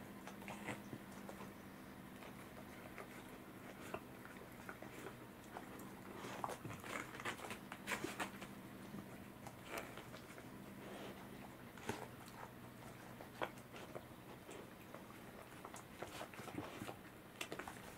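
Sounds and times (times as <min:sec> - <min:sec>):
cat chewing and licking: 0:00.0 - 0:17.9.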